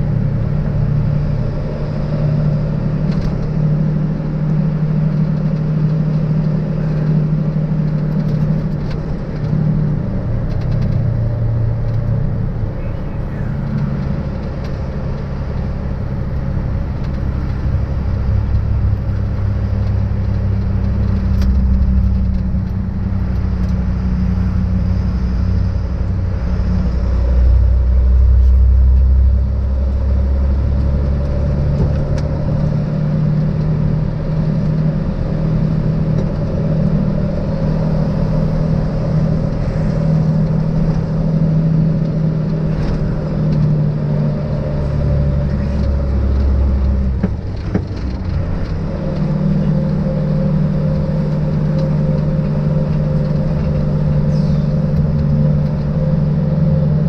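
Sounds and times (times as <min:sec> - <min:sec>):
truck diesel engine driving: 0:00.0 - 0:57.0.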